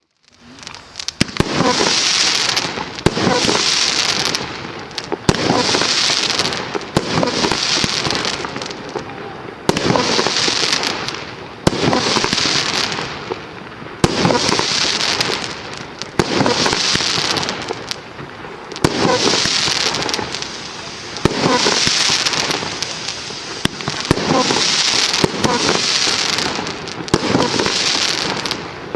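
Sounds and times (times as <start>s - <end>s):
hissing firework crackle: 0.0s - 28.9s
firework bangs: 0.3s - 28.9s.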